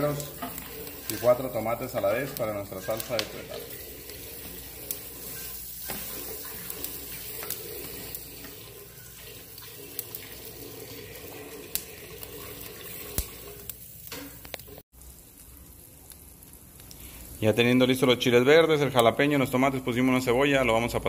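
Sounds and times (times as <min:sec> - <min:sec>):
food sizzling on a hot grill: 0:00.0 - 0:20.9.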